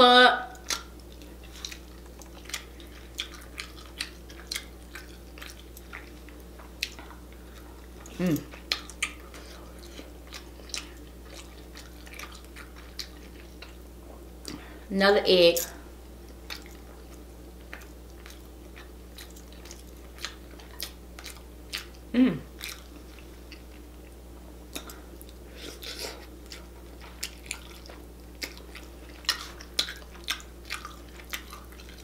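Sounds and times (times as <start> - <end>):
wet chewing and lip smacks: 0.5 - 14.6, 16.2 - 22.0, 22.6 - 32.0.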